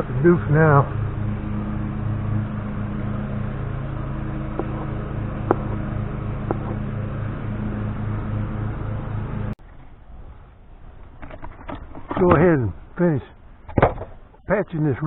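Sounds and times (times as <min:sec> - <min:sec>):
low pulsing mechanical hum: 0:00.0 - 0:15.0.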